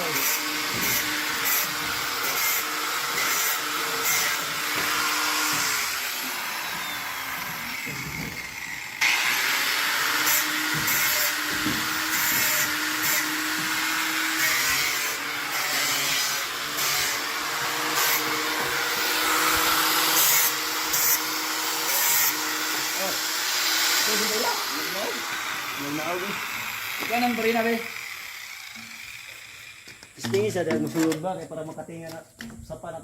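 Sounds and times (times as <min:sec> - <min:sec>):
electric power drill running: 0:00.0 - 0:30.2.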